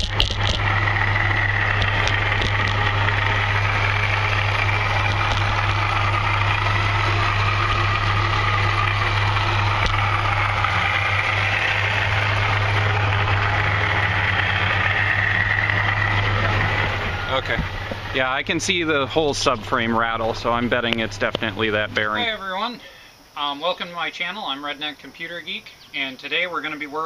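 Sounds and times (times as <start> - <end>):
pickup truck low hum: 0.0 - 23.4
faint high whine: 0.6 - 27.0.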